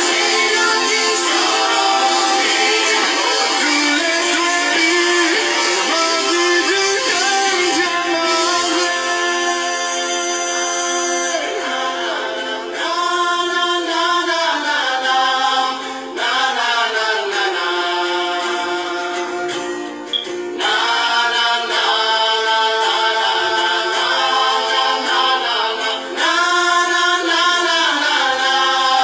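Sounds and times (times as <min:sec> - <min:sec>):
voices singing held notes: 0:00.0 - 0:29.0.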